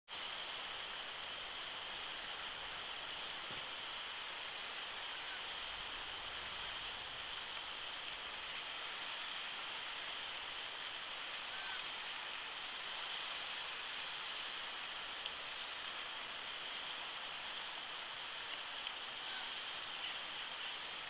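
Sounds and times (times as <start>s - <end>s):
wind hiss: 0.1s - 21.0s.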